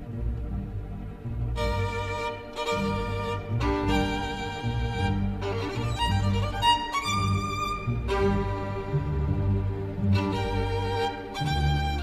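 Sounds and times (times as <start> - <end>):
bowed strings music: 0.0 - 12.0.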